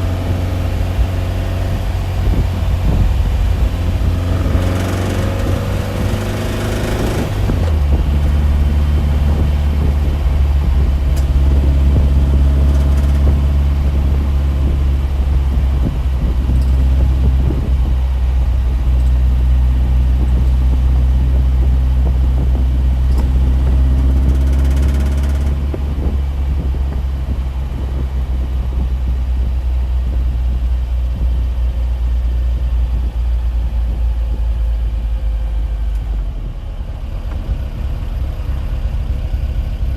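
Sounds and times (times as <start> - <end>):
motor vehicle drone: 0.0 - 39.9.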